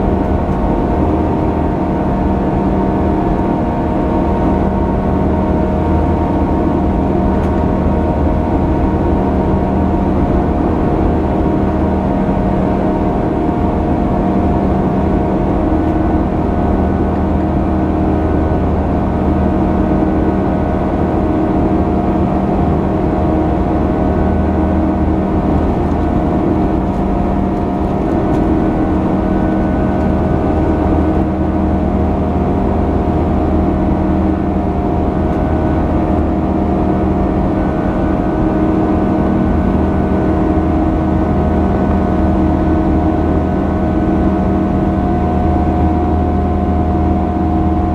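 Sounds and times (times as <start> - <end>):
jet engine drone in cabin: 0.0 - 47.9.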